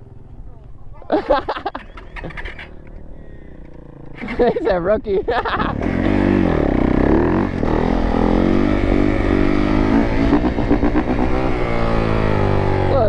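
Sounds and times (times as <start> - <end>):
other dirt bikes running: 0.0 - 13.0
dirt bike engine revving: 1.2 - 13.0.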